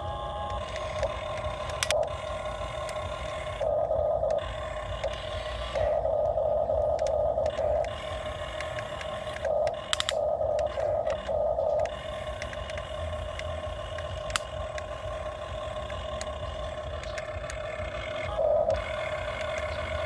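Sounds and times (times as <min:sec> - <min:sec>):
excavator mechanical whine: 0:00.0 - 0:20.0.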